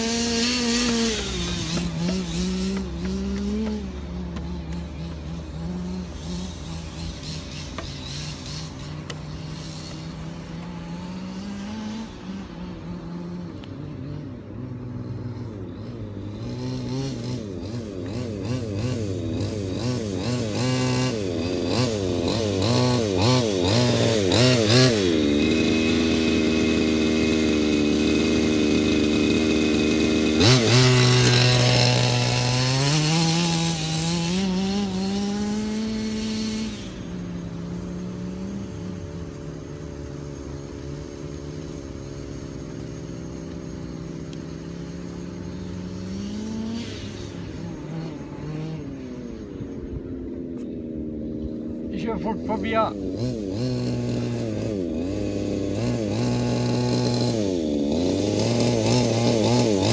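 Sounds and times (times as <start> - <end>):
rc truck two-stroke engine: 0.0 - 59.9.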